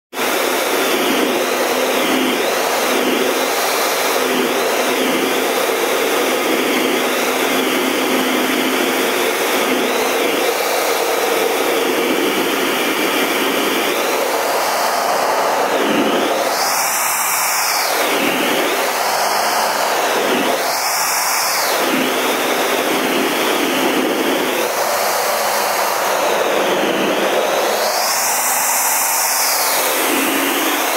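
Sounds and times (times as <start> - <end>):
jet engine and airflow noise: 0.1 - 30.9.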